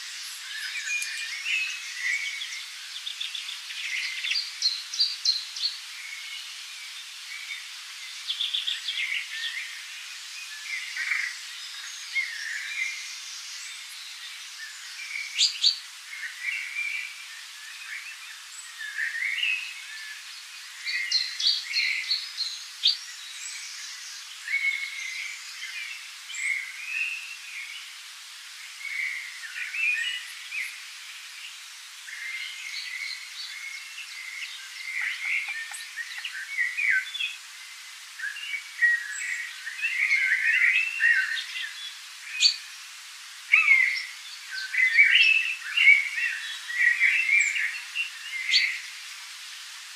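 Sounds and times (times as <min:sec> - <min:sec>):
songbirds chirping and singing: 0:00.0 - 0:28.0, 0:28.6 - 0:42.9, 0:43.5 - 0:49.2.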